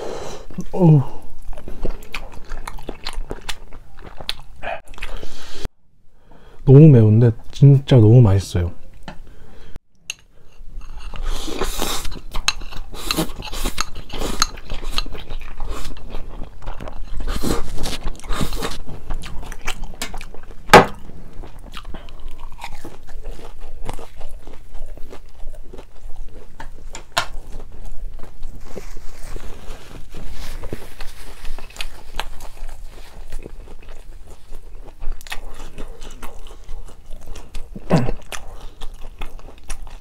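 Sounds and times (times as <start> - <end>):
chewing and slurping noodles: 0.4 - 5.7, 10.9 - 40.0.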